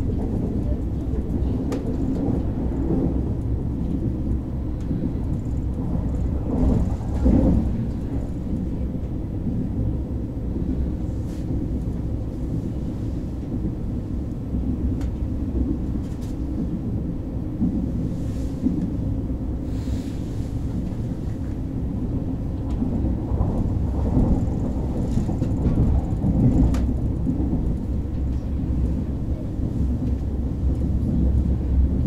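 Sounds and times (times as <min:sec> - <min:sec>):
train cabin rumble: 0:00.0 - 0:32.0.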